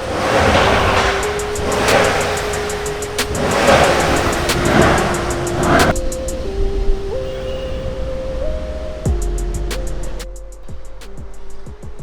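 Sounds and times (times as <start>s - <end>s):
car engine noise: 0.0s - 11.7s
background music: 0.1s - 12.0s.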